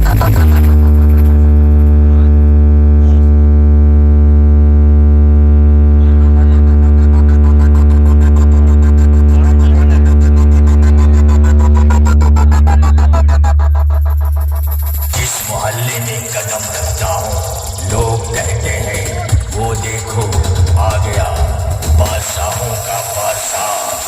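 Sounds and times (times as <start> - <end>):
deep bass drone: 0.0 - 24.0.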